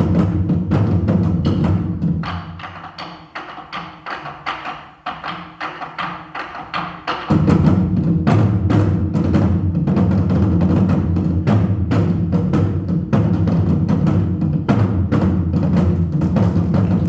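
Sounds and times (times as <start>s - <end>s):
barrel drums beaten fast: 0.0s - 17.0s.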